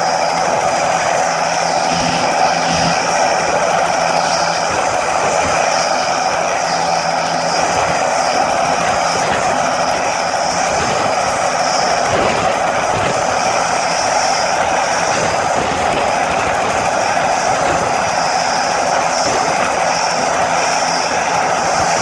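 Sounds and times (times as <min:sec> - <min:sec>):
helicopter rotor running: 0:00.0 - 0:22.0
high turbine whine: 0:00.0 - 0:22.0.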